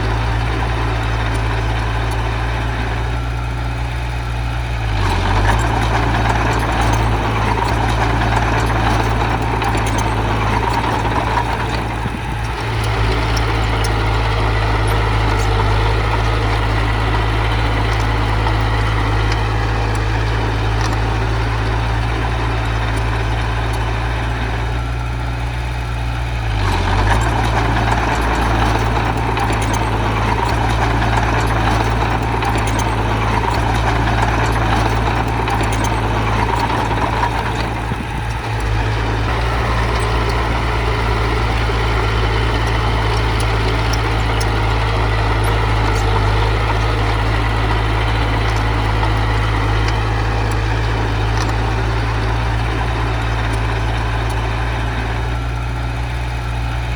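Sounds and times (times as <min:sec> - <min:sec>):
heavy machinery diesel engine: 0:00.0 - 0:56.9.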